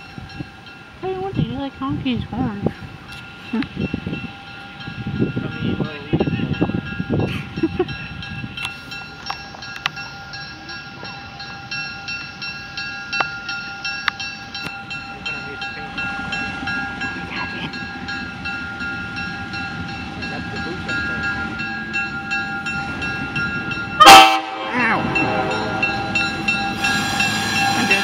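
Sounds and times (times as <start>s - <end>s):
diesel locomotive engine rumble: 0.0s - 28.0s
bell ringing: 3.1s - 28.0s.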